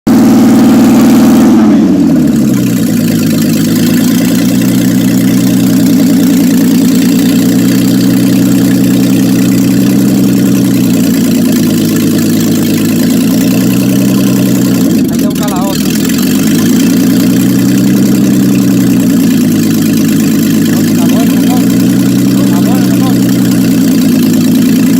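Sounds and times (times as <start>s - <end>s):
car engine idling: 0.1s - 24.9s.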